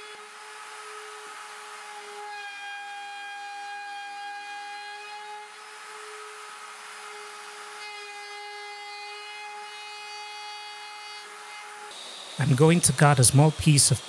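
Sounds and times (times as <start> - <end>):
bit routing plywood: 0.0 - 14.0
rotary tool high whine: 0.0 - 14.0.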